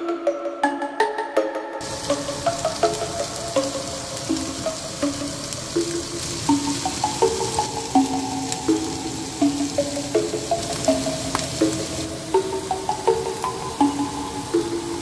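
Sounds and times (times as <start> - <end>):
background music with melody: 0.0 - 15.0
fish sizzling in pan: 1.8 - 15.0.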